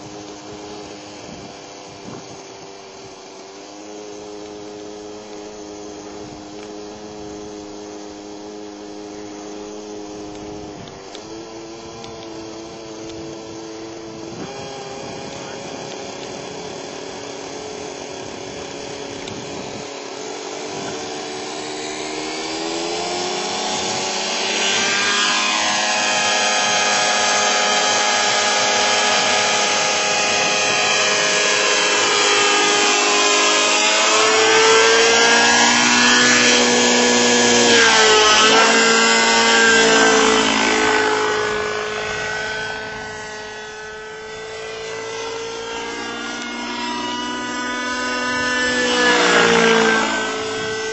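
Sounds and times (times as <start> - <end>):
model helicopter engine whining: 0.0 - 50.9.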